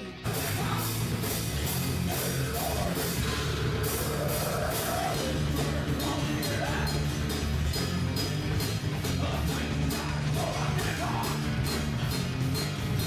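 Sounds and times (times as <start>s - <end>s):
acoustic metal band playing: 0.0s - 13.0s.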